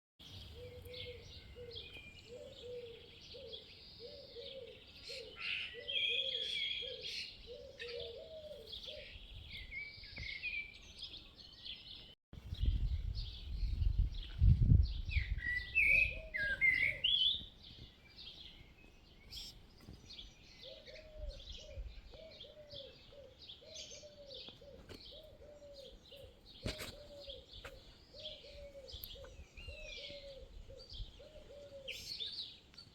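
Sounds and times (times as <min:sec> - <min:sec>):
small birds chirping: 0:00.2 - 0:32.9.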